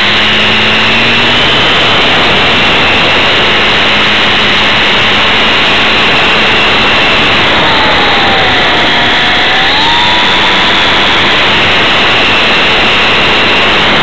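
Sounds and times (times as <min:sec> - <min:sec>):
model airplane motor whine: 0:00.0 - 0:14.0
propeller and wind rush: 0:00.0 - 0:14.0.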